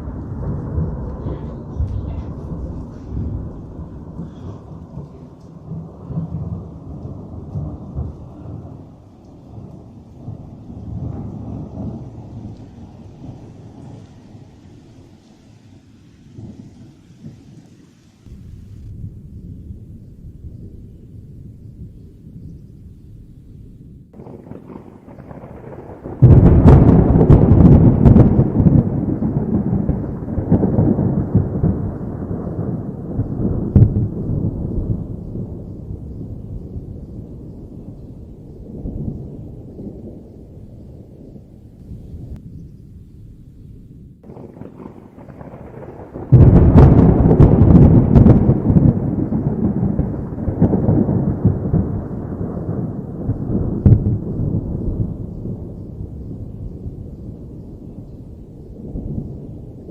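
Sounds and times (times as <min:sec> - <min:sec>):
thunder cracking and rumbling: 0:00.0 - 0:15.4, 0:16.2 - 0:59.9.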